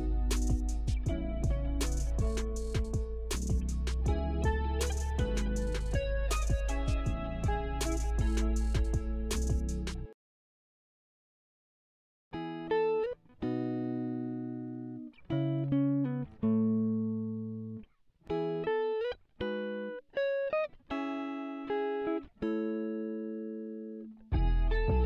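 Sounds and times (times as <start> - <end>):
plucked string instrumental music: 0.0 - 10.1, 12.4 - 25.0.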